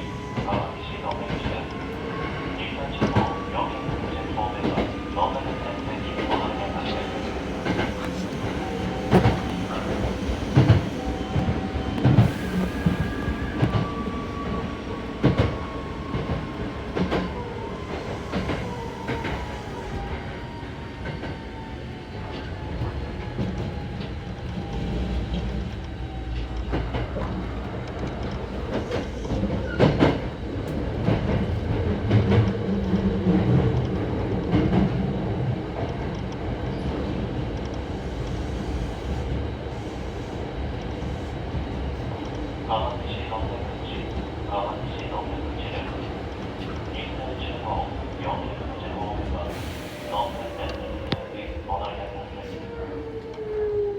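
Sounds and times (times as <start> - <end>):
train rumble: 0.0 - 53.9.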